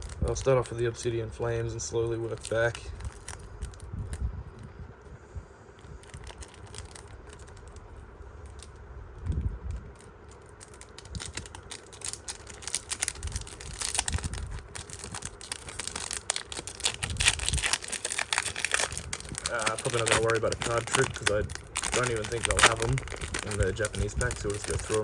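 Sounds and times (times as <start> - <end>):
foil wrapper crinkling: 0.0 - 1.1, 1.9 - 4.7, 5.8 - 25.0.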